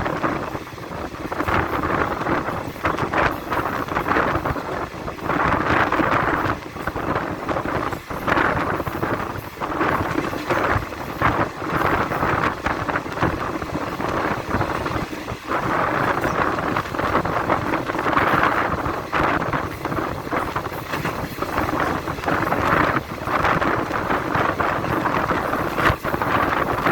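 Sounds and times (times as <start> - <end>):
train rumbling: 0.0 - 26.9
wind buffeting microphone: 0.0 - 26.9.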